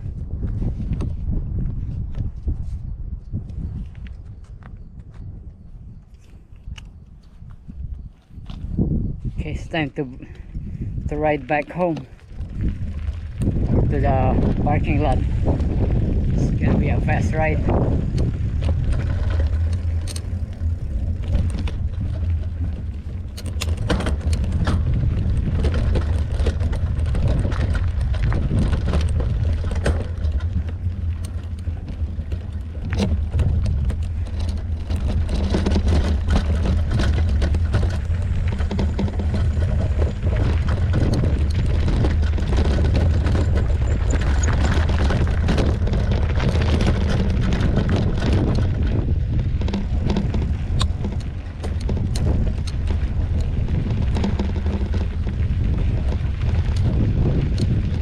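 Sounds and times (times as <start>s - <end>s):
wind and tyre rumble: 0.0s - 58.0s
bike rattling over rocks: 5.9s - 58.0s.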